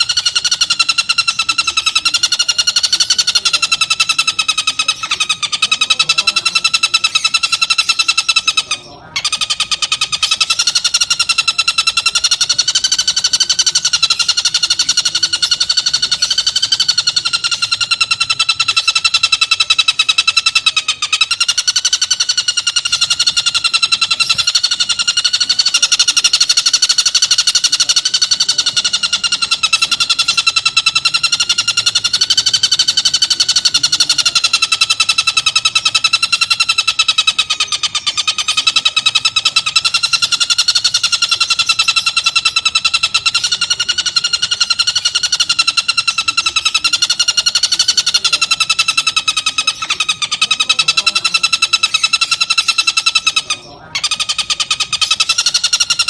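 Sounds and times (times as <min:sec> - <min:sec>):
kingfisher harsh trill: 0:00.0 - 0:56.0.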